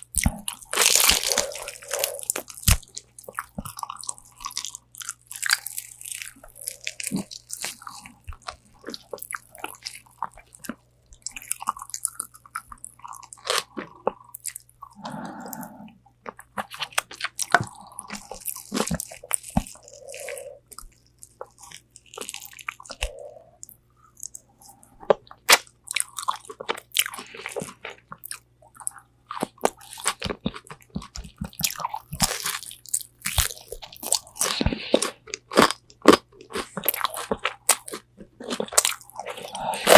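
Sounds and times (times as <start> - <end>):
crunchy chewing: 0.0 - 39.9
wet mouth sounds: 0.0 - 39.9.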